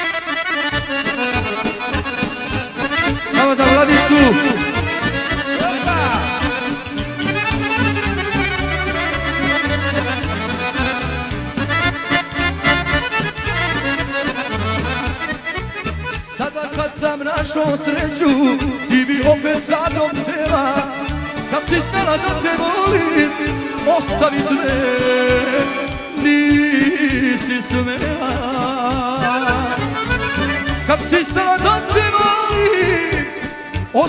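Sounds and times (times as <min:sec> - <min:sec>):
accordion melody: 0:00.0 - 0:34.0
bass line: 0:00.7 - 0:34.0.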